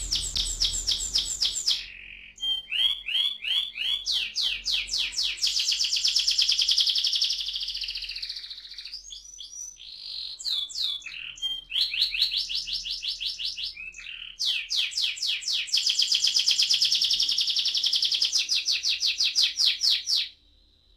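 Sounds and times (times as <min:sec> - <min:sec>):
canary trilling: 0:00.0 - 0:20.3
canary chirps and warbles: 0:00.0 - 0:20.5.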